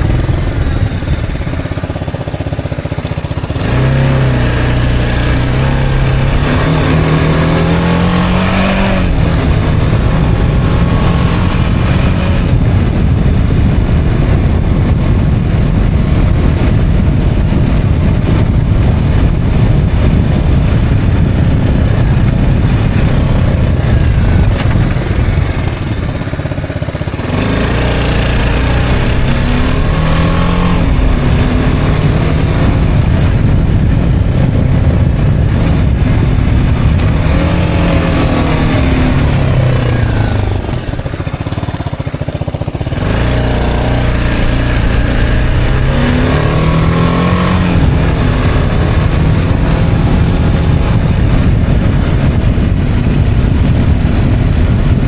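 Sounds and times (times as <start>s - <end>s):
heavy wind noise: 0.0s - 55.0s
motorcycle engine accelerating: 0.0s - 55.0s.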